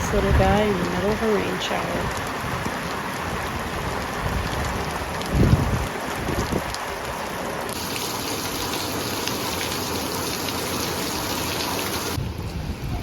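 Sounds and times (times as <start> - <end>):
heavy rain falling: 0.0 - 12.8.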